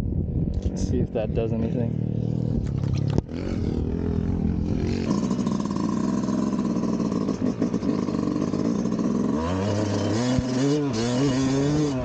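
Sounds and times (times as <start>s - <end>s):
motocross bike engine revving: 1.4s - 12.0s.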